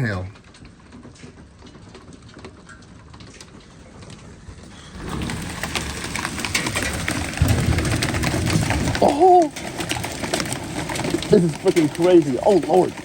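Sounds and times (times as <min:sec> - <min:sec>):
hailstones clattering: 0:00.0 - 0:13.0.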